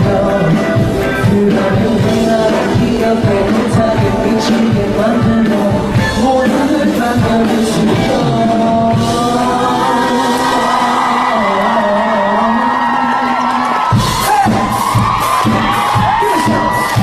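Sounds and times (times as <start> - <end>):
person singing: 0.0 - 17.0
pop song over loudspeakers: 0.0 - 17.0.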